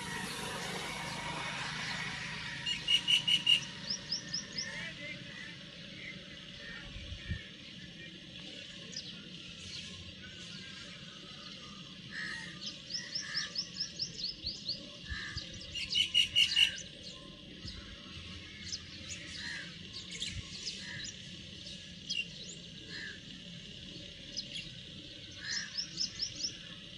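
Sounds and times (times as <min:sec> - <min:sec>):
small birds chirping: 0:00.0 - 0:26.9
steady high hiss: 0:00.0 - 0:26.9.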